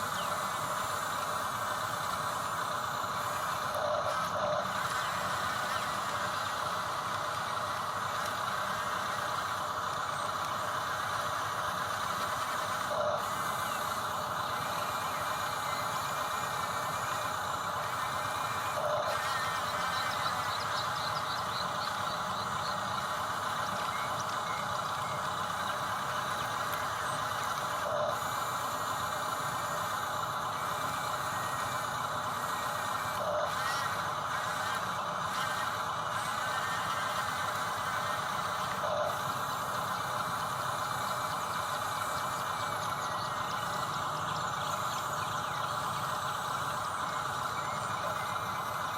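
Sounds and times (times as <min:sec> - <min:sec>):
small electric motors whirring: 0:00.0 - 0:48.9.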